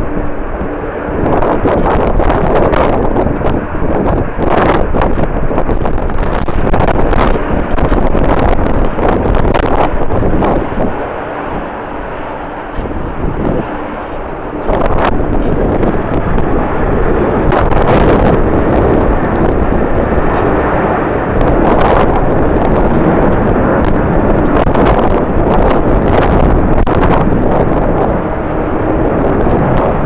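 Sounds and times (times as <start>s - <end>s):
gusty wind buffeting microphone: 0.0s - 30.0s
jet airliner engines: 0.0s - 30.0s.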